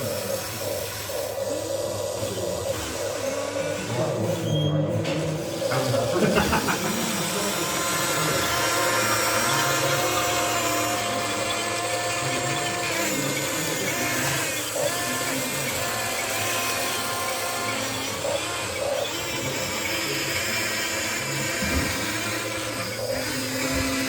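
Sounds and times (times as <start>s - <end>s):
whine of small electric motors: 0.0s - 24.0s.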